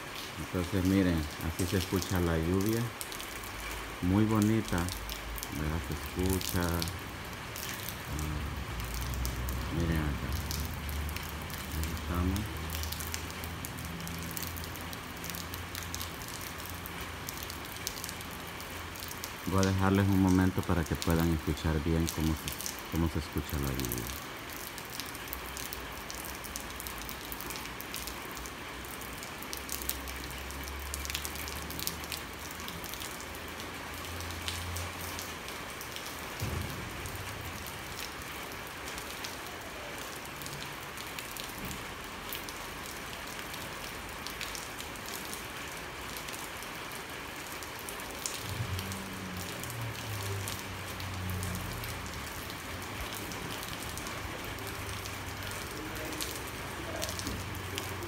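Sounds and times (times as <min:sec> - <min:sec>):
raindrops ticking: 0:00.0 - 0:58.0
steady rain falling: 0:00.0 - 0:58.0.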